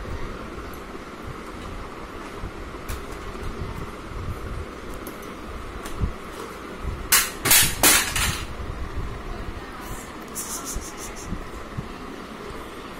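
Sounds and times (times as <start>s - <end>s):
low background hum: 0.0s - 12.9s.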